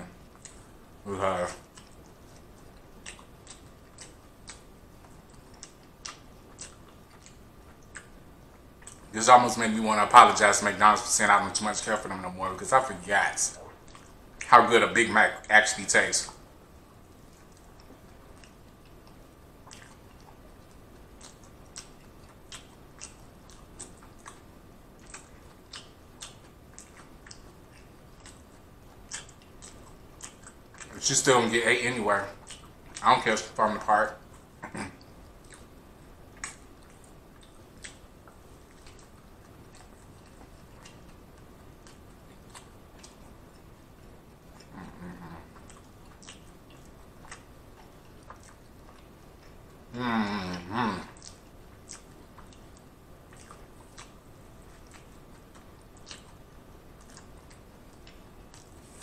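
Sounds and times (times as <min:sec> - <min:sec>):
man chewing with mouth clicks: 0:00.0 - 0:09.1, 0:10.5 - 0:14.5, 0:16.3 - 0:59.0.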